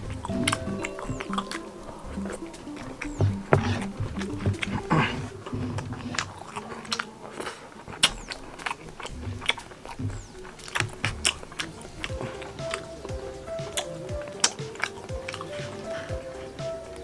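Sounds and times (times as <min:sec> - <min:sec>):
mouth clicks: 0:00.0 - 0:17.0
person chewing food: 0:00.0 - 0:17.0.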